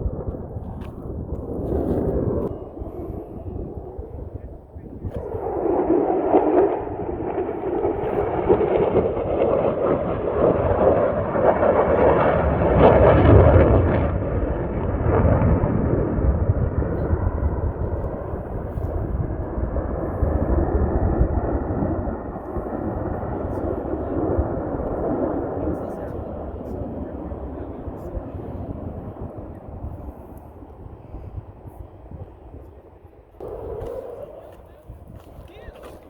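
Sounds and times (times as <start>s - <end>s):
jet passing overhead: 0.0s - 36.0s.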